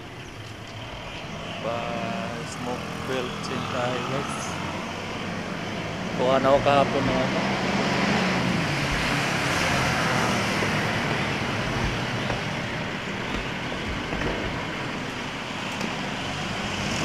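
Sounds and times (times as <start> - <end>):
motorcycle engine: 0.0 - 17.0
road noise: 0.0 - 17.0
wind on microphone: 0.0 - 17.0.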